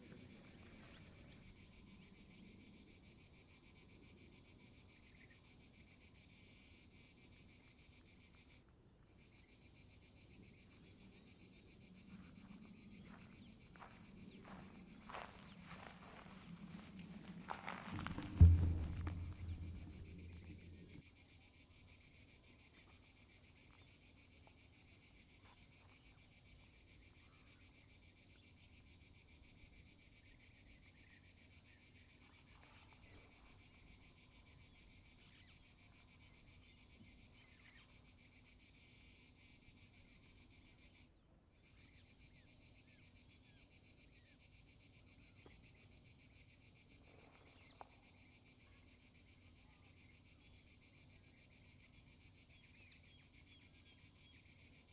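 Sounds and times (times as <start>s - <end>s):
insect chorus trilling: 0.0s - 8.6s, 9.2s - 54.9s.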